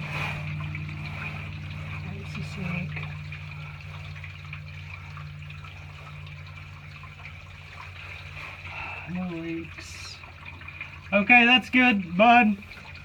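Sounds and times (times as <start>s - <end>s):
low hum: 0.0s - 11.3s
water draining down sink pipe: 0.0s - 13.0s.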